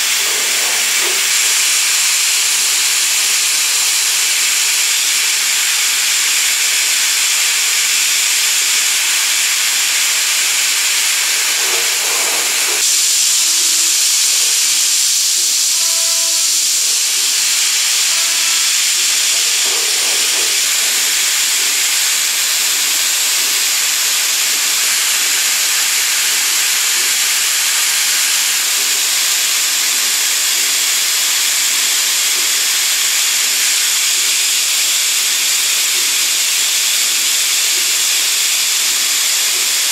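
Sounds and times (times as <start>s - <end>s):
coolant spraying hiss: 0.0s - 39.9s.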